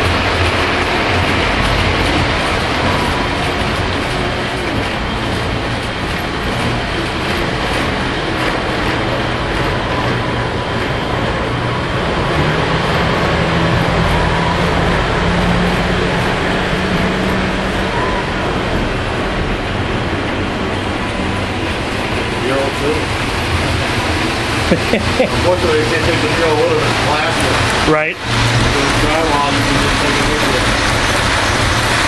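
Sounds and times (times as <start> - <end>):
locomotive motor hum: 0.0 - 32.0
model train wheels rumbling: 0.0 - 32.0.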